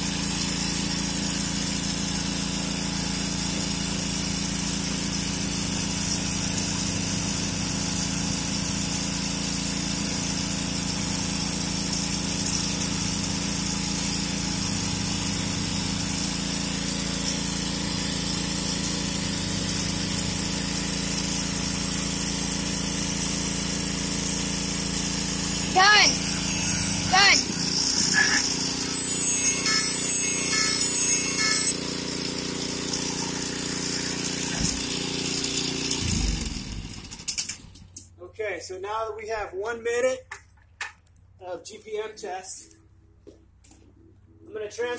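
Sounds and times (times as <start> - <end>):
water jets spraying into bucket: 0.0 - 37.7
pressure washer running: 0.0 - 38.0.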